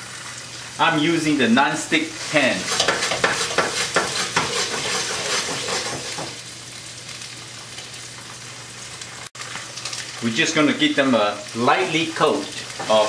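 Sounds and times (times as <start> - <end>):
tofu sizzling in hot oil: 0.0 - 13.0.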